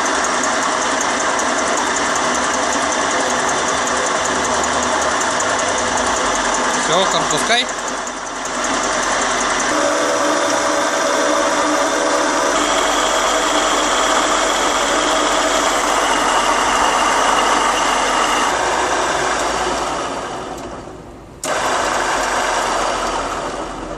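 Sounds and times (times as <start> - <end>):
drill press whirring: 0.0 - 23.9.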